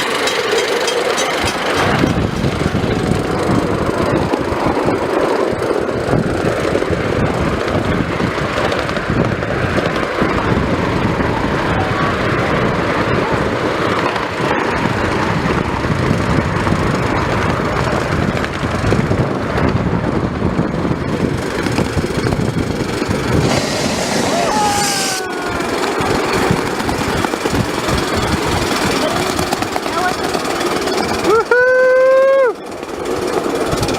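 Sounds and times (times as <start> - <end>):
train rumbling and rattling: 0.0 - 33.9.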